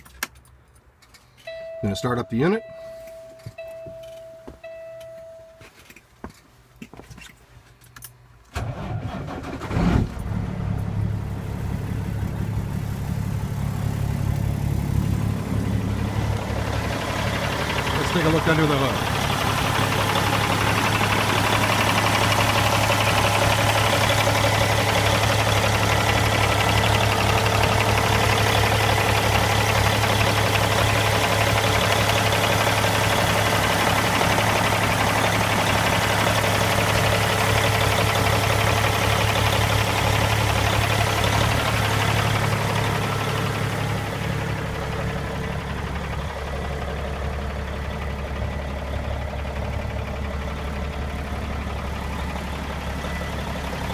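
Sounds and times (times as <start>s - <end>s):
diesel engine idling: 8.6s - 53.9s.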